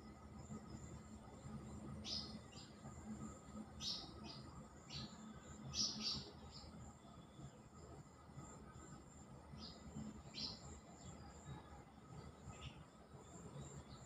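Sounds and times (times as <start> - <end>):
insects droning: 0.0 - 14.0
small birds chirping: 0.4 - 7.7, 9.5 - 14.0.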